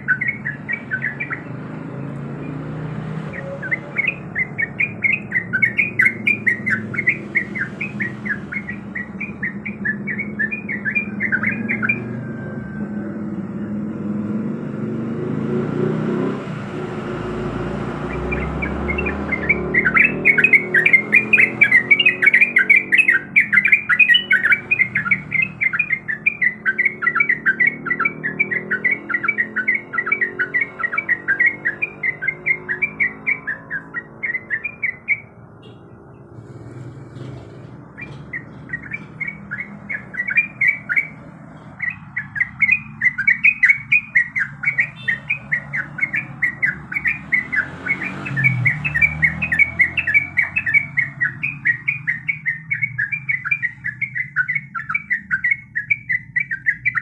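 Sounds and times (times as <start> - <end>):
bird chattering song: 0.0 - 13.3, 16.0 - 57.0.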